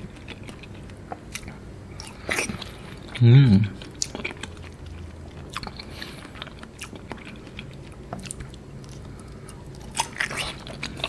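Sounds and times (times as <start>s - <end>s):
person chewing jelly: 0.0s - 11.0s.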